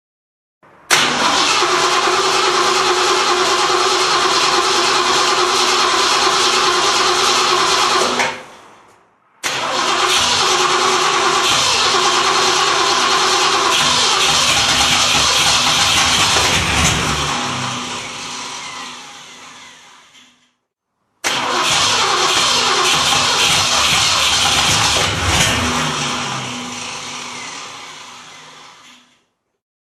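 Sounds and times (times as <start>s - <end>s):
car engine starter cranking: 0.9s - 8.5s, 9.4s - 20.4s, 21.2s - 29.1s.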